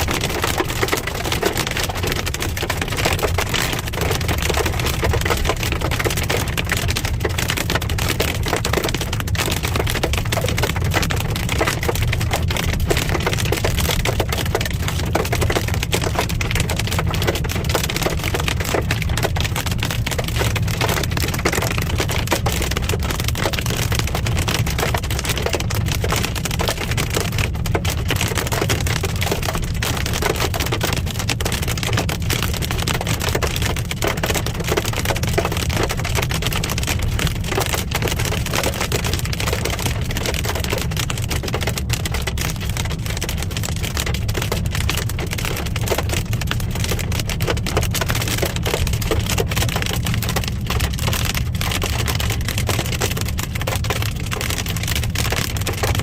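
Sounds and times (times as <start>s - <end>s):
car road rumble: 0.0s - 56.0s
hail and rain on car roof: 0.0s - 56.0s.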